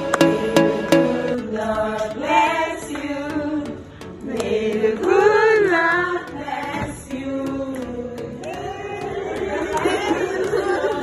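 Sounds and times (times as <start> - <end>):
choir singing: 0.0 - 11.0.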